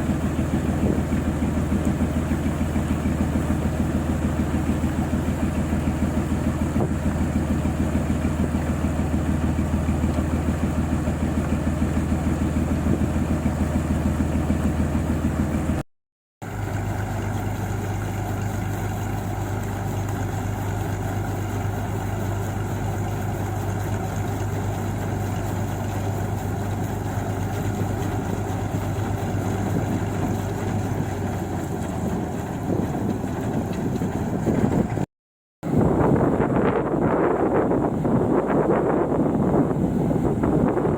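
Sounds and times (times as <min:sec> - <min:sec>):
combine harvester diesel engine: 0:00.0 - 0:15.8, 0:16.4 - 0:40.9.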